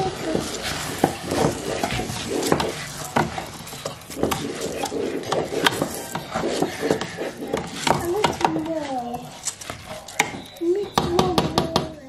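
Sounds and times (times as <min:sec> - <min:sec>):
rice grains rustling: 0:00.0 - 0:10.6
spatula scraping metal pot: 0:00.0 - 0:11.9.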